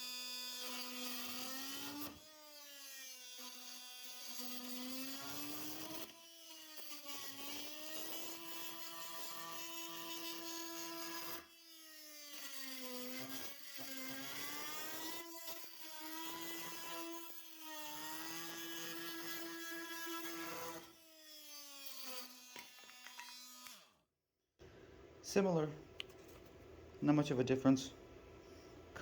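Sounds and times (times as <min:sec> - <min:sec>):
oscillating tool cutting wood: 0:00.0 - 0:23.9.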